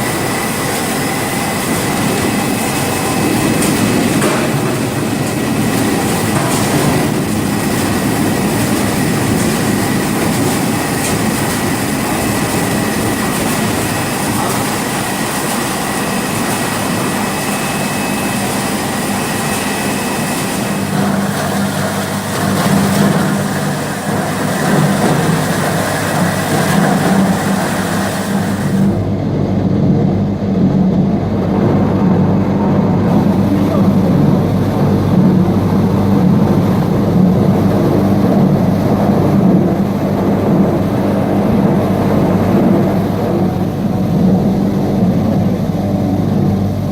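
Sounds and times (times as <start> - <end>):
faint steady whines: 0.0 - 46.9
machinery rattle and clatter: 0.0 - 46.9.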